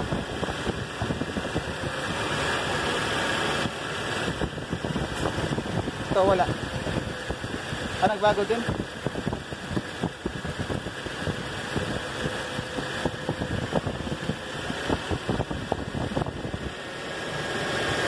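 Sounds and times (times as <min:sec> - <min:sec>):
car engine idling unevenly: 0:00.0 - 0:18.0.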